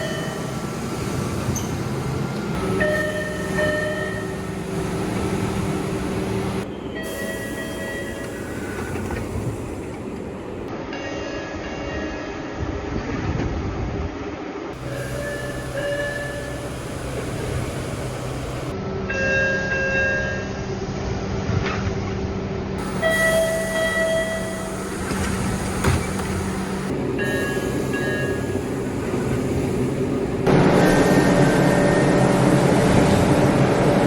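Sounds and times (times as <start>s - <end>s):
train humming and rumbling: 0.0s - 34.0s.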